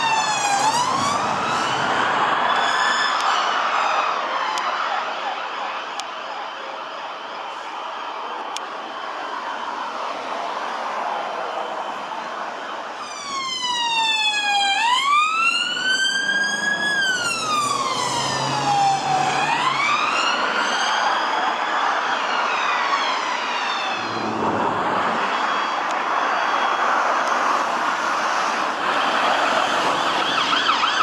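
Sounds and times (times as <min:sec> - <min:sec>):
police siren wailing: 0:00.0 - 0:31.0
traffic noise: 0:00.0 - 0:31.0.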